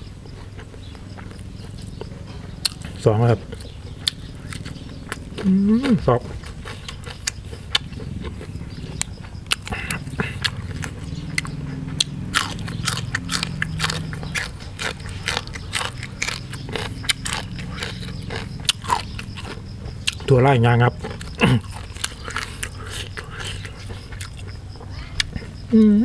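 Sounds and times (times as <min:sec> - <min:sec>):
person chewing food: 0:00.0 - 0:20.4, 0:21.0 - 0:25.7.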